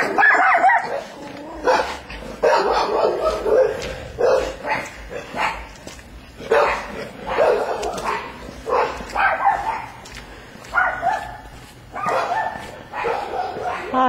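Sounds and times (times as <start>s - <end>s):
dog barking: 0.0s - 10.1s, 10.7s - 14.0s.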